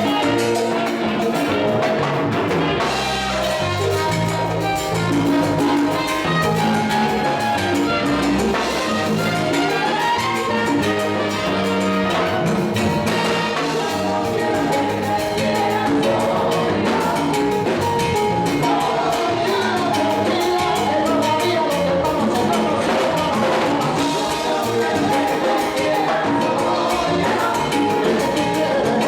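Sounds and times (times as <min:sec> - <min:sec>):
percussion dance beat: 0:00.0 - 0:29.0
salsa band playing: 0:00.0 - 0:29.0.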